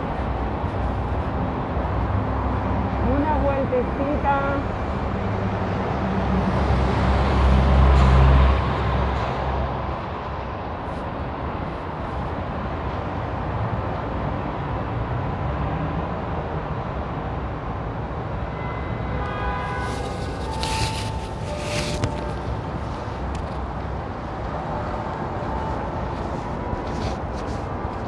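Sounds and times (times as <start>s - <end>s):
bus engine rumbling: 0.0s - 15.4s, 16.0s - 28.0s
street traffic noise: 0.0s - 28.0s.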